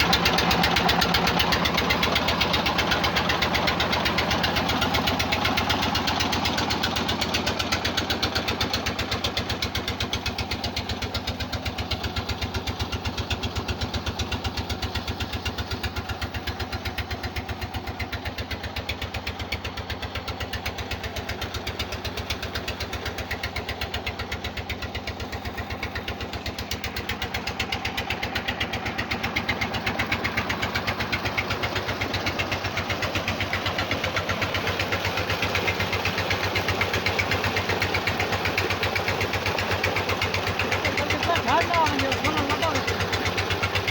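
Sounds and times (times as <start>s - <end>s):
diesel engine chugging: 0.0s - 43.9s.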